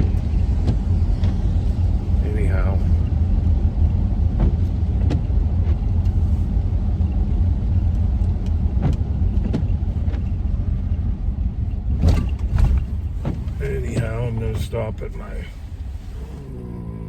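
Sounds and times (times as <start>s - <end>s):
van road rumble inside cabin: 0.0s - 17.0s.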